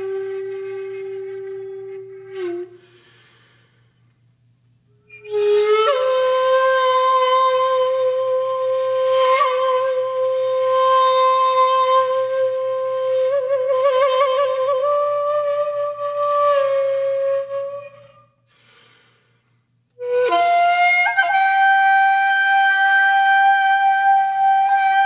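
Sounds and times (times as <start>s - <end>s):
slow flute-like wind instrument: 0.0s - 4.0s, 4.9s - 25.0s.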